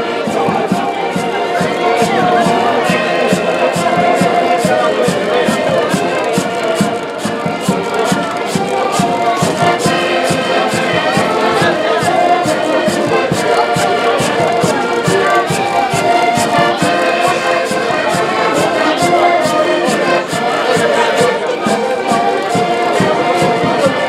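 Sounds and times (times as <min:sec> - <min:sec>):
accordions playing melody: 0:00.0 - 0:24.0.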